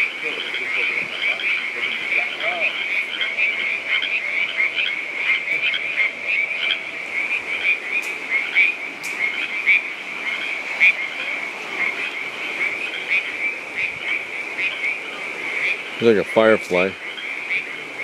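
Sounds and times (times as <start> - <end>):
frogs calling in a trill: 0.0 - 18.0.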